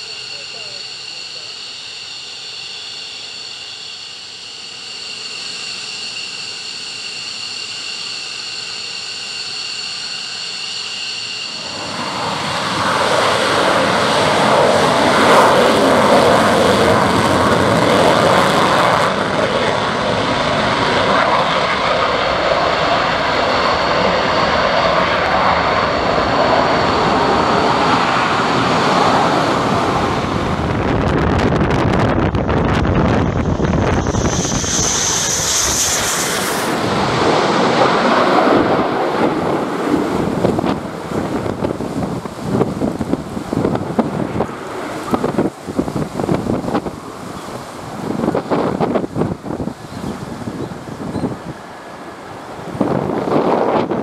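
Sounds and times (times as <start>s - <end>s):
jet engines roaring: 0.0s - 54.0s
jet engines whining: 0.0s - 54.0s.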